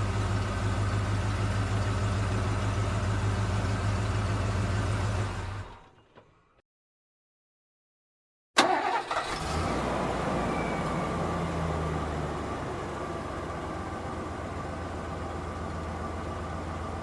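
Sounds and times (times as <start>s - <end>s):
truck engine idling: 0.0s - 6.0s, 8.6s - 17.0s.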